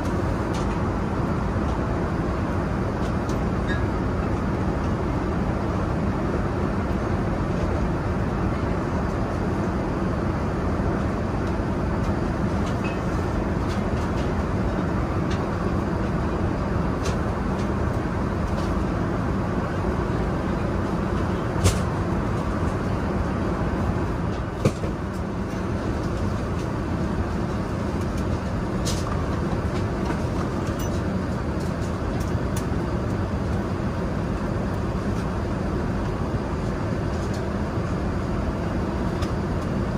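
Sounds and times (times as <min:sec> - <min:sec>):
aircraft cabin airflow and engine: 0:00.0 - 0:39.9.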